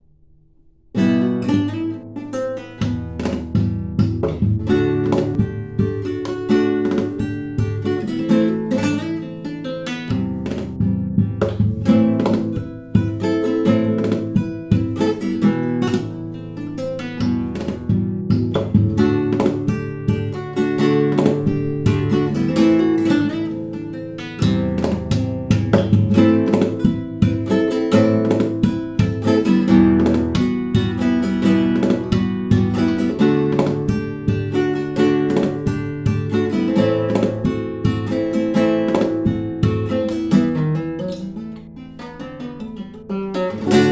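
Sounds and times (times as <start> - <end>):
guitar melody: 0.9 - 43.9.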